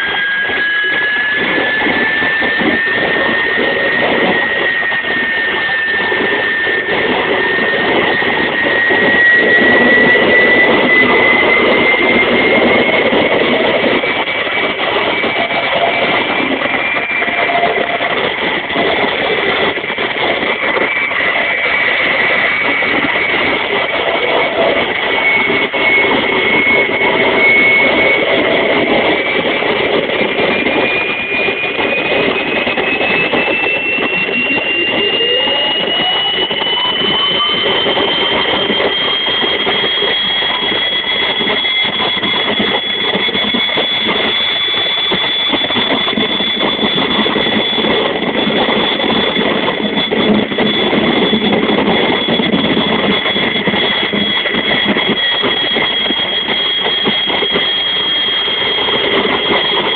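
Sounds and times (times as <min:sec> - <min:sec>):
gas turbine engine roaring: 0:00.0 - 0:59.9.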